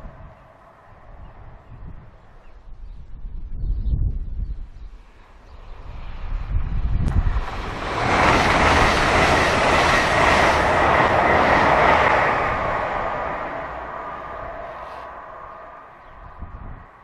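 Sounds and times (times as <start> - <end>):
train passing at speed: 0.0 - 3.3, 4.6 - 17.0.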